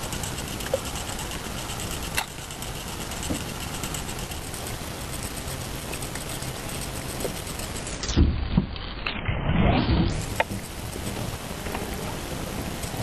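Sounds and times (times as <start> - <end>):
fishing reel gears ticking: 0.0 - 8.2, 10.2 - 13.0
low steady rumble: 0.0 - 13.0.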